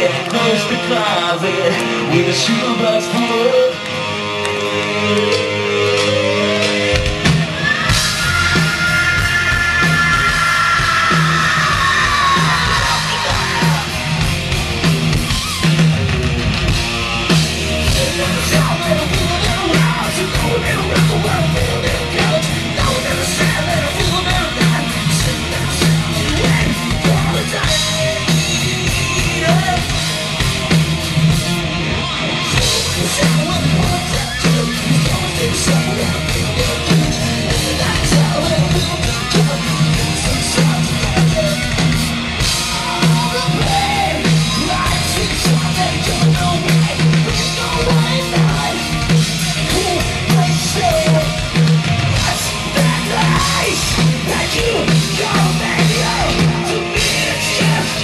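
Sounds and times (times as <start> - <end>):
hard rock band playing: 0.0 - 58.0.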